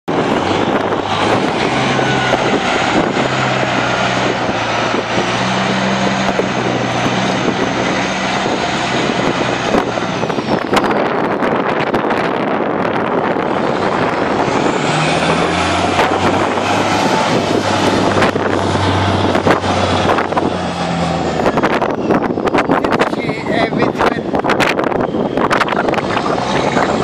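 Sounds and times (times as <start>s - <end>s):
diesel truck engine running: 0.1s - 27.0s
gusty crackling noise: 0.1s - 27.0s.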